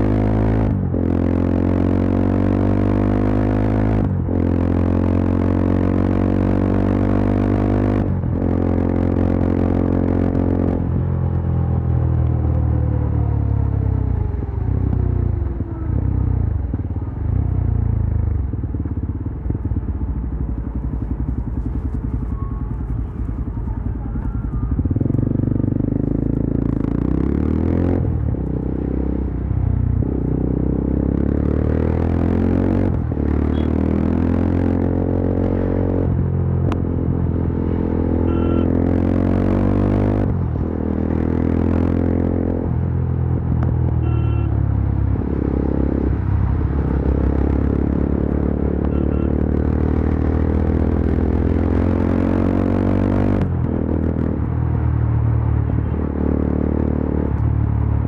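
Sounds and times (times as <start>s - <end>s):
motorcycle engine revving: 0.0s - 11.8s, 12.4s - 58.0s.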